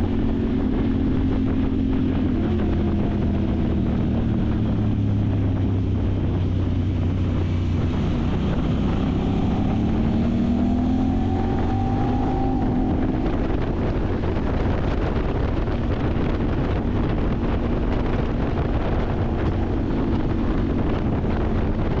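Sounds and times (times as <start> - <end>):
vehicle engine running: 0.0 - 22.0
wind buffeting microphone: 0.0 - 22.0.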